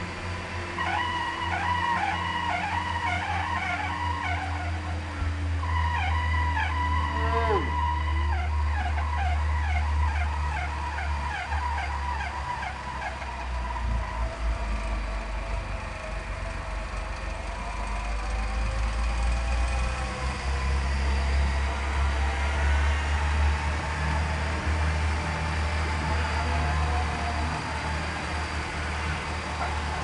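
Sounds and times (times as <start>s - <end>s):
off-road engine droning: 0.0s - 30.0s.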